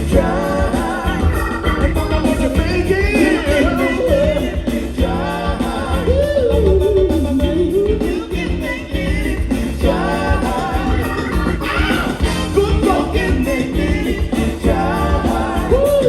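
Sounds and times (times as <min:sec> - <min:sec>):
bass groove: 0:00.0 - 0:16.0
drums: 0:00.0 - 0:16.0
funk band playing: 0:00.0 - 0:16.0
sliding lead vocal: 0:00.0 - 0:16.0.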